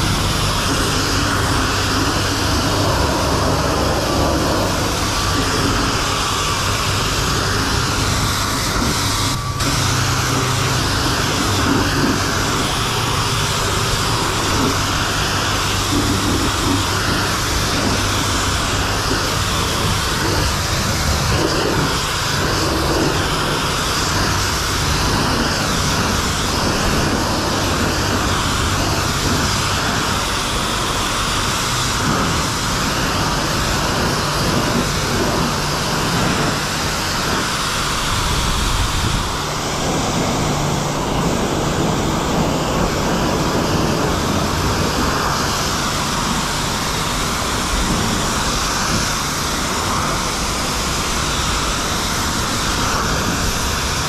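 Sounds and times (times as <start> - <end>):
high-pressure water jet spraying: 0.0 - 54.0.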